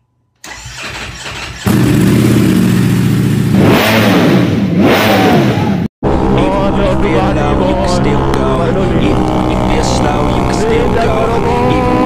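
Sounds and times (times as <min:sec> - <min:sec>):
motorcycle engine revving: 0:00.5 - 0:12.0.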